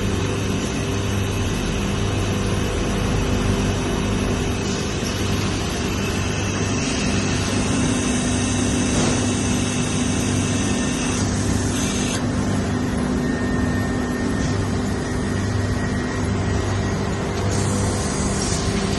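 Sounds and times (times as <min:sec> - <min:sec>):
laminating machine humming: 0:00.0 - 0:18.9.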